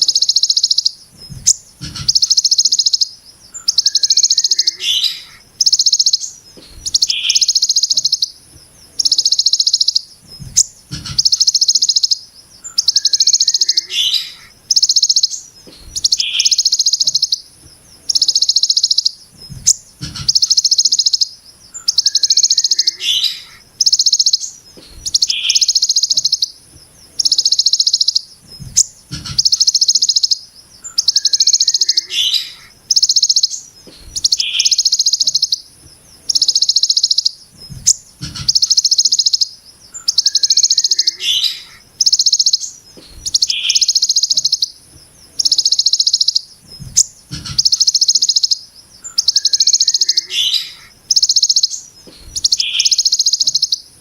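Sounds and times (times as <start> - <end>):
bird buzzing rattles: 0.0 - 54.0.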